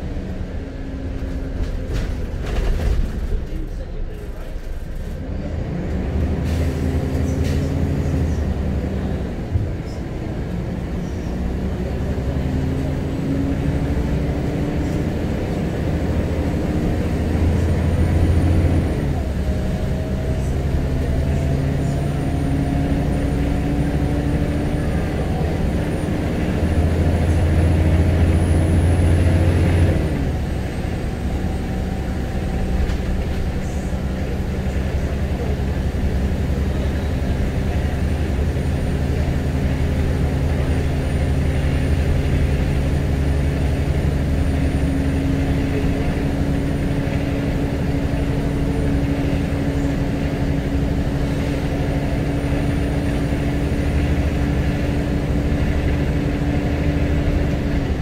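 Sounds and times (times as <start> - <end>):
bus diesel engine pulling: 0.0 - 58.0.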